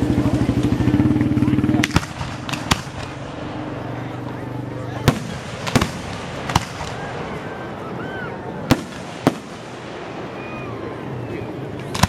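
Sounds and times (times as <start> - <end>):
fireworks bangs: 1.6 - 4.2, 4.9 - 12.0.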